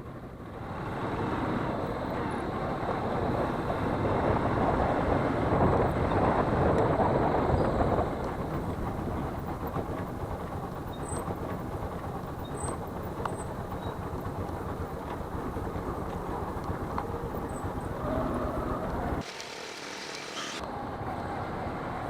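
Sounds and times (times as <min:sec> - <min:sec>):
wind noise on microphone: 0:00.0 - 0:19.2
motorcycle engine and road rumble: 0:00.0 - 0:22.0.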